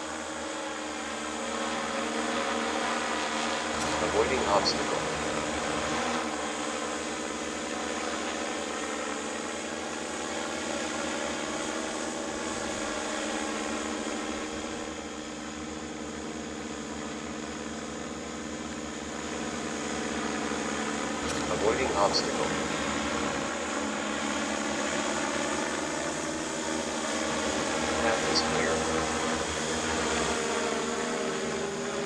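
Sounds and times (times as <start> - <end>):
drone propellers humming: 0.0 - 32.0.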